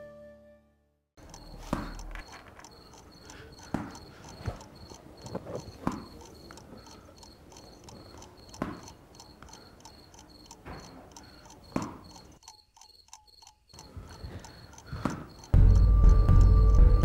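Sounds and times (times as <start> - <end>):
crickets chirping: 1.2 - 17.0.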